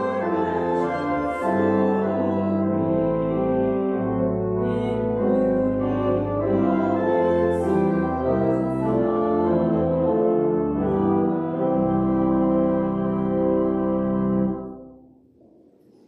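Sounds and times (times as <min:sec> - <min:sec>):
church organ playing hymn chords: 0:00.0 - 0:15.0.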